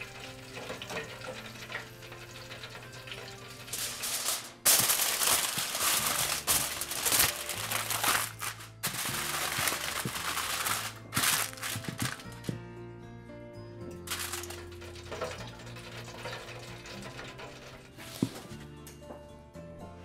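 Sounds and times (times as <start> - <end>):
aluminum foil crinkling: 0.0 - 12.6, 14.1 - 18.5.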